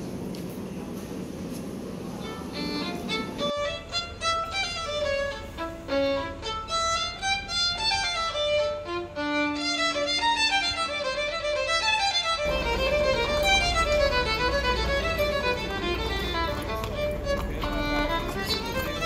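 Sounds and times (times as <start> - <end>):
fast violin melody: 2.2 - 19.0.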